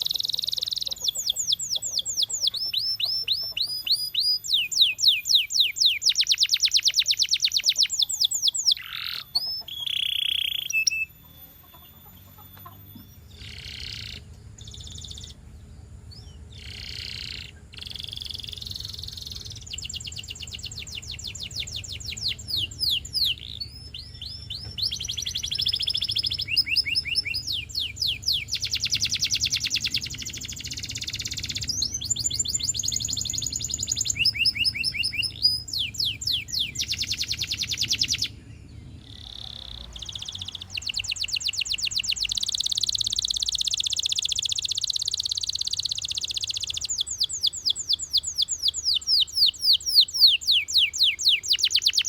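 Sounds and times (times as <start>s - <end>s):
canary singing rapid trills: 0.0s - 52.0s.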